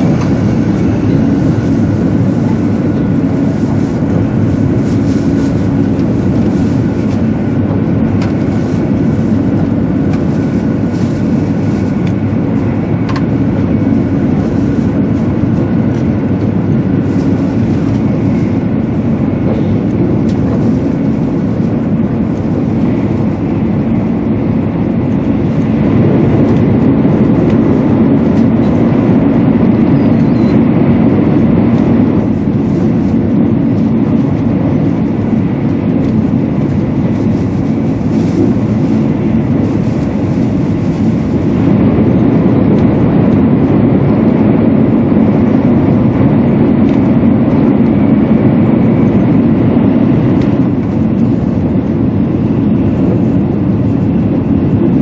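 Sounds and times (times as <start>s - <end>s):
train cabin low rumble: 0.0s - 55.0s.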